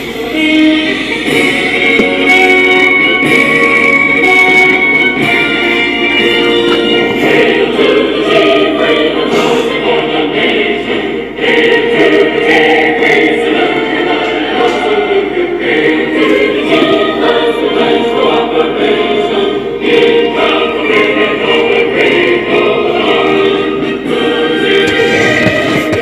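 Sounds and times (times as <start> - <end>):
choir singing long notes: 0.0 - 26.0.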